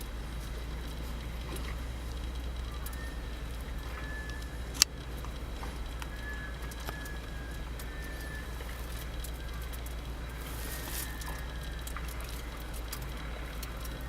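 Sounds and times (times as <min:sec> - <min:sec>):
faint drawn-out bird whistles: 0:02.6 - 0:14.0.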